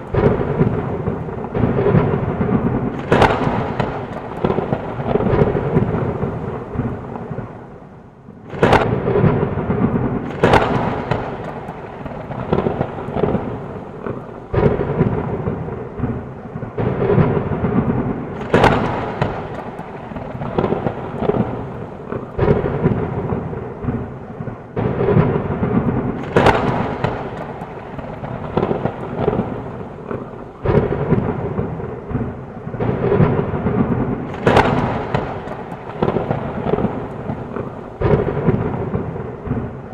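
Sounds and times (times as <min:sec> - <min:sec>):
heavy rain: 0:00.0 - 0:39.9
thunder cracking and rumbling: 0:00.0 - 0:39.9.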